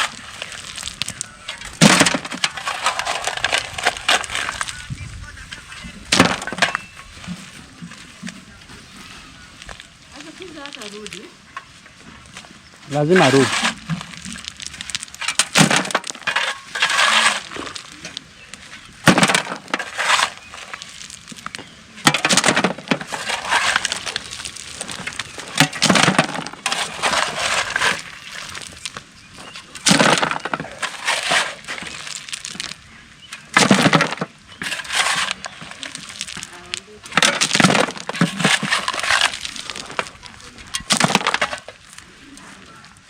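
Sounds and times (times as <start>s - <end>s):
shovel scraping sand and stone: 0.0s - 7.6s, 12.9s - 42.8s.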